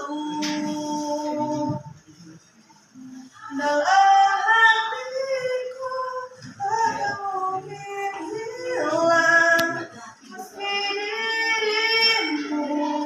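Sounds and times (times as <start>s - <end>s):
girl singing: 0.0s - 2.0s, 3.4s - 13.0s.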